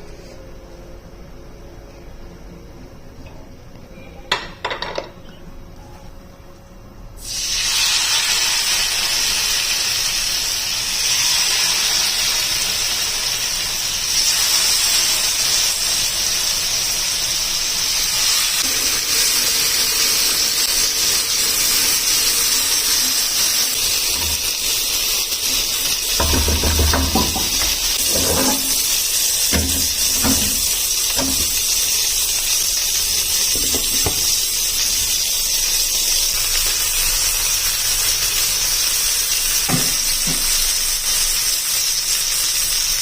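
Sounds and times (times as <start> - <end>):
steady hiss: 7.2 - 43.0.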